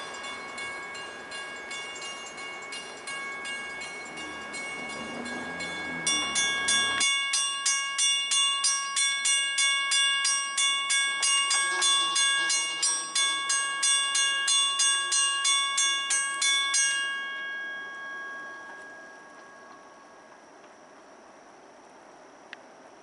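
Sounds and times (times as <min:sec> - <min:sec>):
railroad crossing bell ringing: 0:00.0 - 0:20.6.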